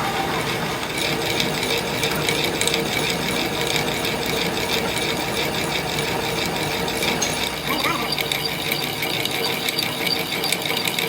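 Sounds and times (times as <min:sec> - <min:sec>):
machine running with fast rattle: 0:00.0 - 0:11.0.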